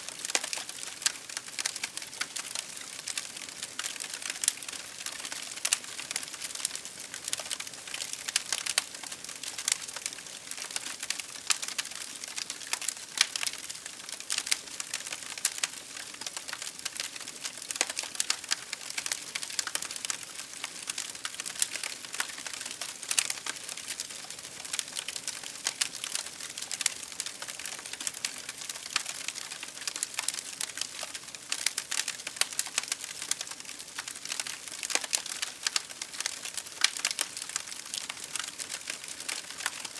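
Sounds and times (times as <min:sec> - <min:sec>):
campfire wood crackling: 0:00.1 - 0:39.9.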